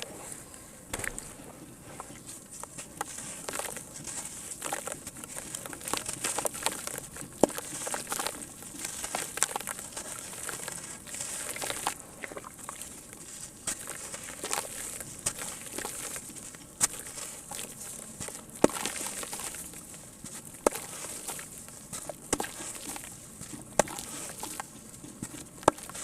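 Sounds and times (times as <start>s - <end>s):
small crackles and pops: 2.1s - 26.0s.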